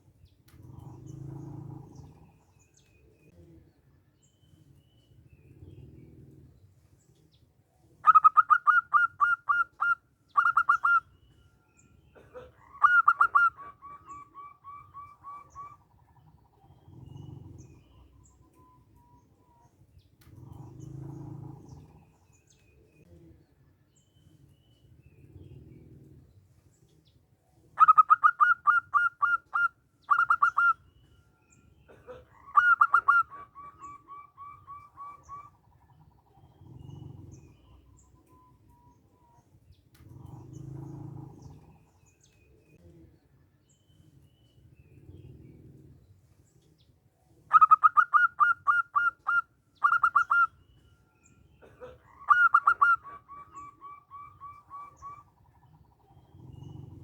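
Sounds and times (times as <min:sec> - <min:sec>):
dove cooing: 0:00.0 - 0:03.8, 0:04.4 - 0:23.5, 0:24.2 - 0:43.2, 0:43.9 - 0:57.0.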